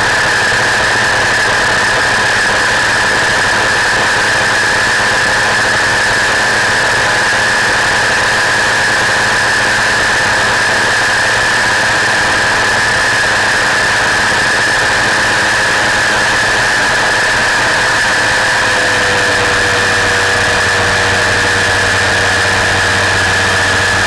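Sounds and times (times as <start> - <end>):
aircraft engine and propeller: 0.0 - 24.0
high whine: 0.0 - 24.0.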